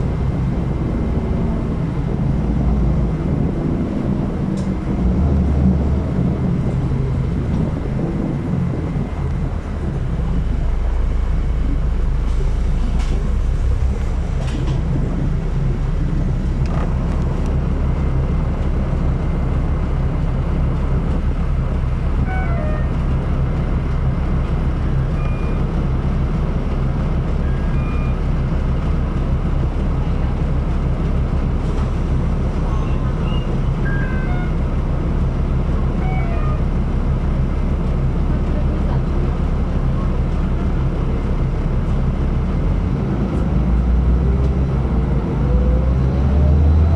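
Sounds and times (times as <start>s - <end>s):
bus engine drone: 0.0s - 46.9s.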